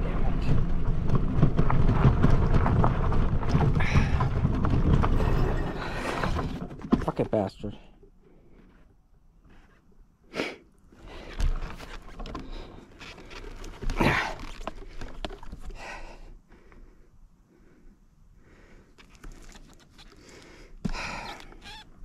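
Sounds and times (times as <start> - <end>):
bicycle rattling on dirt trail: 0.0 - 8.9, 11.0 - 16.8, 18.6 - 22.0.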